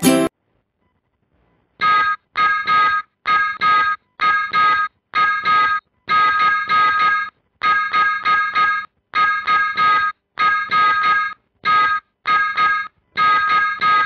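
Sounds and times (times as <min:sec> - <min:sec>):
morse code beeps: 0:01.8 - 0:14.0.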